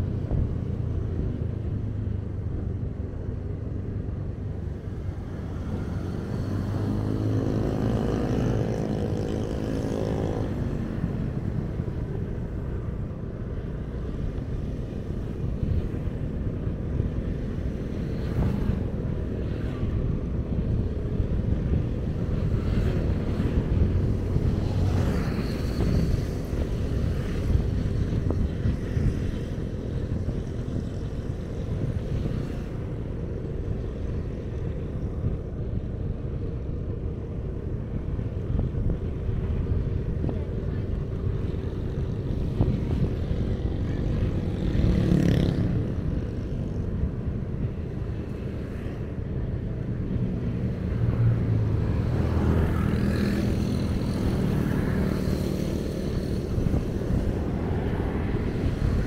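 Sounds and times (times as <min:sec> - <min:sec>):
city traffic rumble: 0:00.0 - 0:59.0
engine drone: 0:00.0 - 0:59.0.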